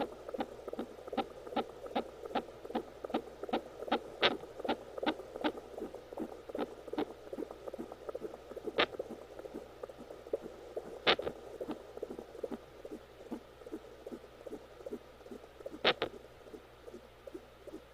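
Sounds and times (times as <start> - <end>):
fetal heartbeat pulsing: 0.0 - 17.9.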